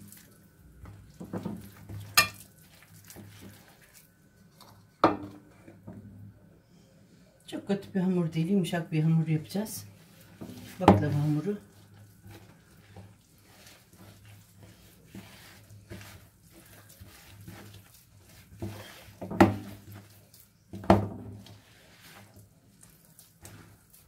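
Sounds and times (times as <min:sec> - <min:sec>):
dough squishing and scraping: 0:00.0 - 0:06.0, 0:08.4 - 0:24.0.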